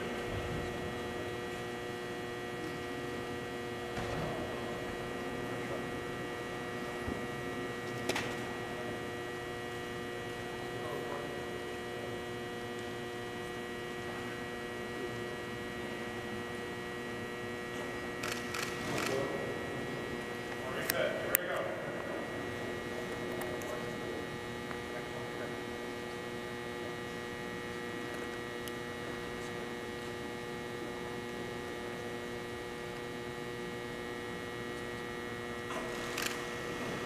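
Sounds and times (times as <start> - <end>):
steady tonal room hum: 0.0 - 37.0.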